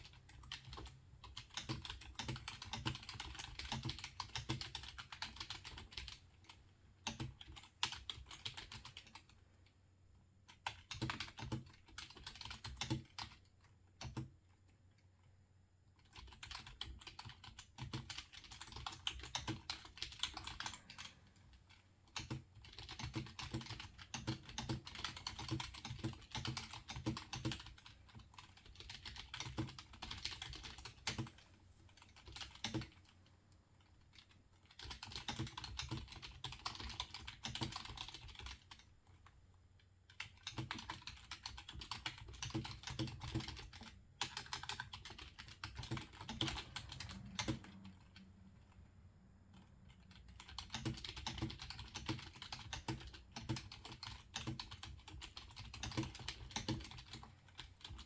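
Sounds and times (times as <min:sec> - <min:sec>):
computer keyboard typing: 0:00.0 - 0:09.4, 0:10.5 - 0:14.6, 0:16.0 - 0:33.2, 0:33.8 - 0:39.4, 0:40.0 - 0:48.8, 0:49.5 - 0:58.0.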